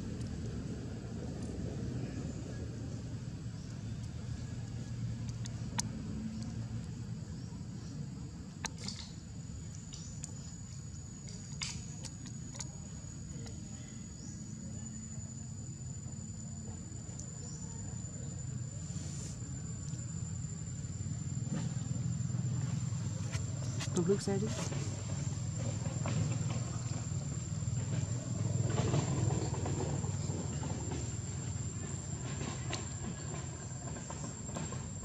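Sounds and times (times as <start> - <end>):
high insect drone: 0.0 - 35.0
low rumble: 0.0 - 35.0.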